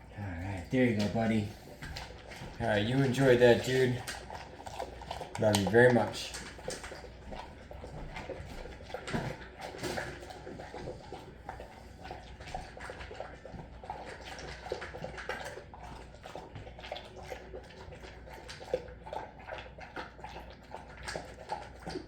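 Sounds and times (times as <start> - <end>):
dog lapping and smacking: 0.0 - 22.0.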